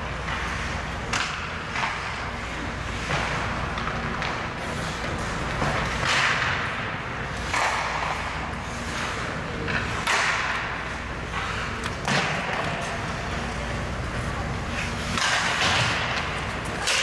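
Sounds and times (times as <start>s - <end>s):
skates scraping ice: 0.0s - 17.0s
hockey stick or puck clack: 0.2s - 2.4s, 3.0s - 13.4s, 14.8s - 17.0s.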